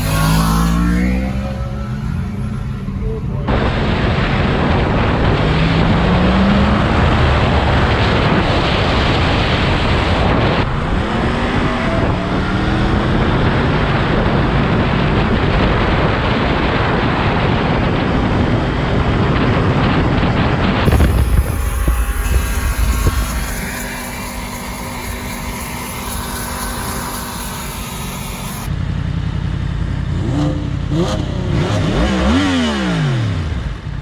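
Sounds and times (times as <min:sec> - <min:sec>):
wind noise on microphone: 0:00.0 - 0:28.7
motorcycle engine accelerating: 0:00.0 - 0:34.0.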